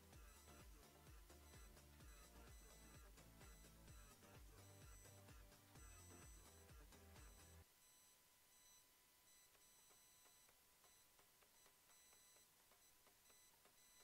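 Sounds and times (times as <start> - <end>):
faint high-pitched tones: 0.0 - 14.0.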